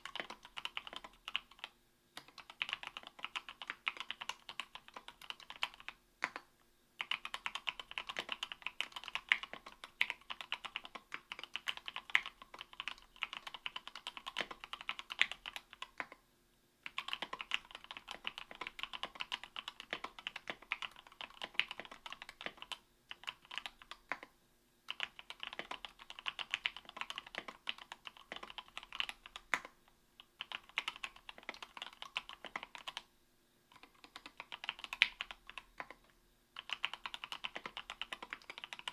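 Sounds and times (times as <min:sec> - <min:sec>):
mechanical keyboard typing: 0:00.0 - 0:16.2, 0:16.8 - 0:24.3, 0:24.9 - 0:33.1, 0:33.7 - 0:38.9.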